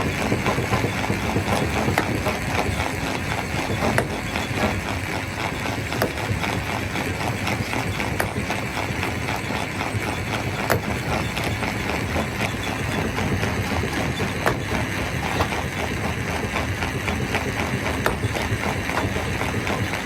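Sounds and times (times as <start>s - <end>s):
rock crusher rumbling and clattering: 0.0s - 20.0s.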